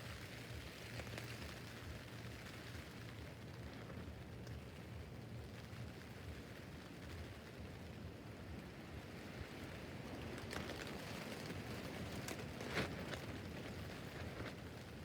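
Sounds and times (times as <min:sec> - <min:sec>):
rain on a tent roof: 0:00.0 - 0:15.0.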